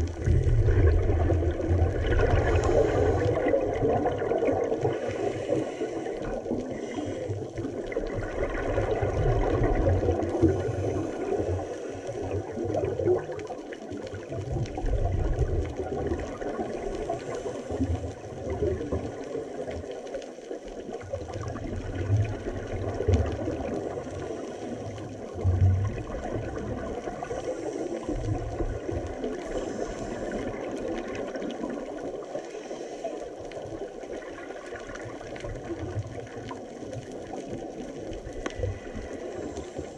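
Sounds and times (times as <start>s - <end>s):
low underwater rumbles: 0.0s - 39.9s
muffled underwater rushing: 0.0s - 39.9s.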